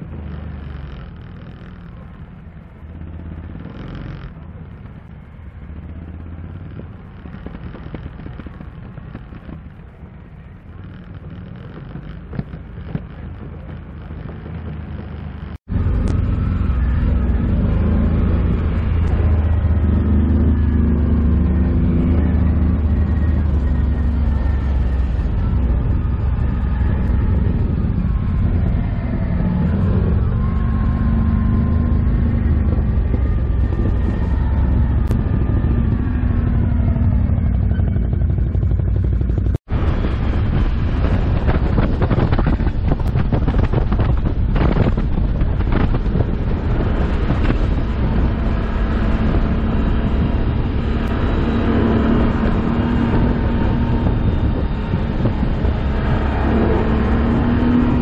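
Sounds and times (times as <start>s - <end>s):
atv engine revving: 0.0s - 58.0s
wind buffeting microphone: 0.0s - 58.0s.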